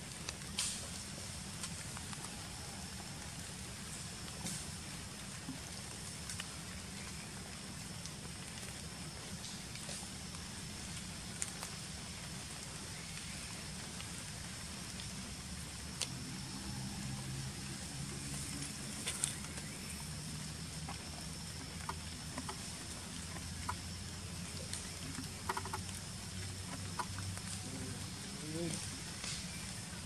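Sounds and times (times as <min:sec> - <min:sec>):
small rustles: 0:03.2 - 0:30.0.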